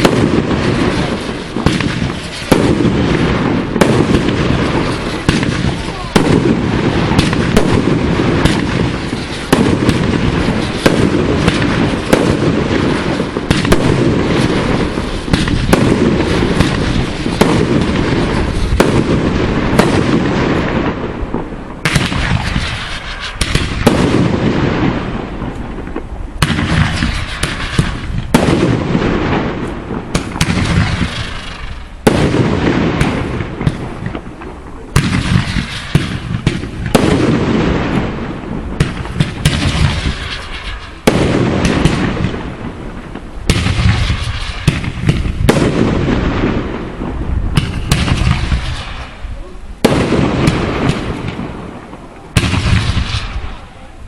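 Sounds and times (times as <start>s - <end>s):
fireworks shells bursting: 0.0s - 51.6s
fireworks crackling: 0.0s - 54.0s.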